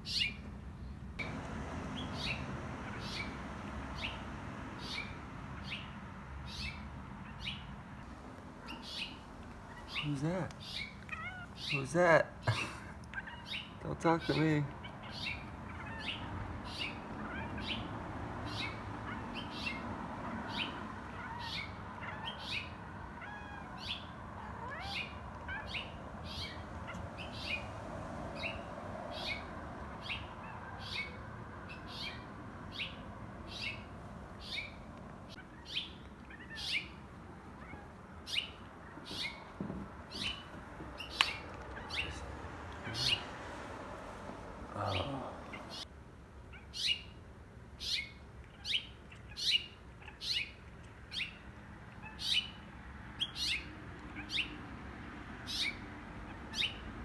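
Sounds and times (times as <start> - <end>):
small bird chirping: 0.0 - 7.7, 8.6 - 11.8, 13.1 - 19.8, 20.4 - 27.7, 28.3 - 43.3, 46.5 - 47.2, 47.8 - 52.6, 53.2 - 54.6, 55.4 - 56.9.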